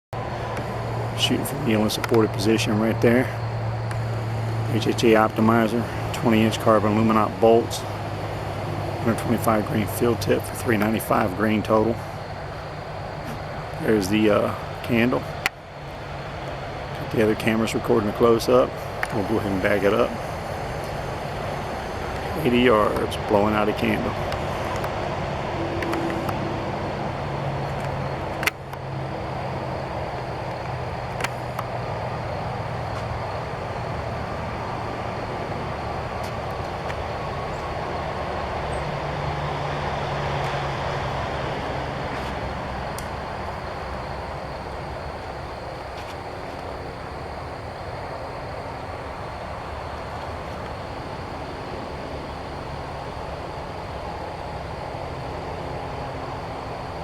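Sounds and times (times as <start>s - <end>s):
outdoor rumble with low hum: 0.2s - 57.0s.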